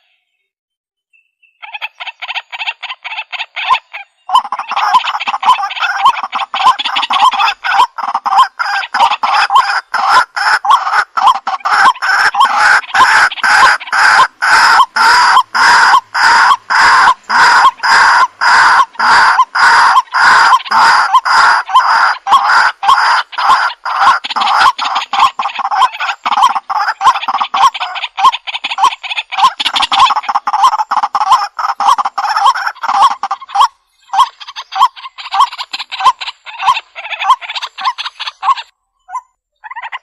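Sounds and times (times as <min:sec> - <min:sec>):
bird calling repeatedly: 0:01.1 - 0:40.0.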